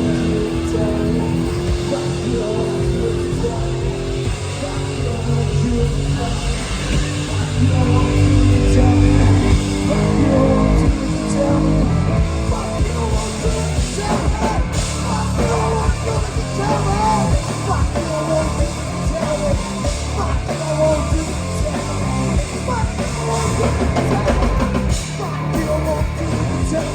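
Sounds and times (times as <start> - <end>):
live rock band playing: 0.0 - 26.9
person singing: 0.0 - 26.9.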